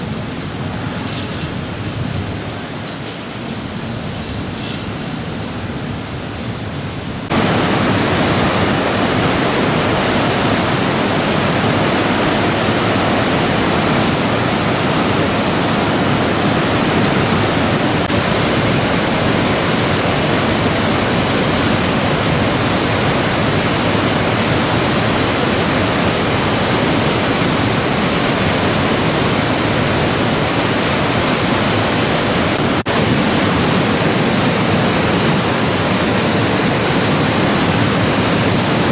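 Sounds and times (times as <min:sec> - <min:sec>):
whitewater rapids rushing: 0:07.2 - 0:38.9.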